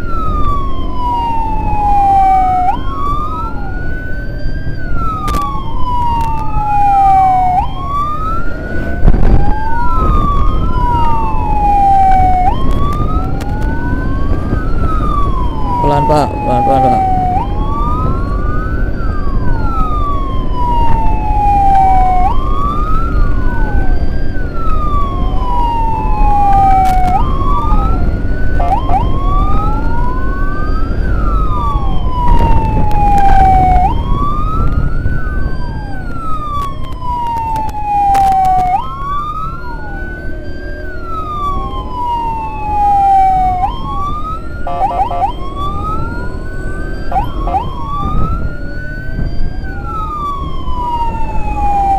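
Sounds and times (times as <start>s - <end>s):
emergency sirens wailing: 0.0s - 51.9s
engine and road rumble: 0.0s - 51.9s.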